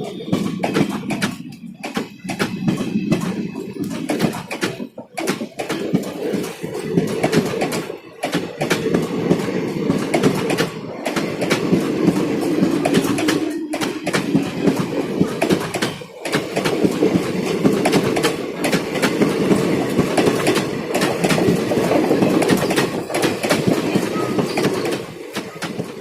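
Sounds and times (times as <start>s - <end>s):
train rumble: 0.0s - 26.0s
train wheels clattering over joints: 0.0s - 26.0s.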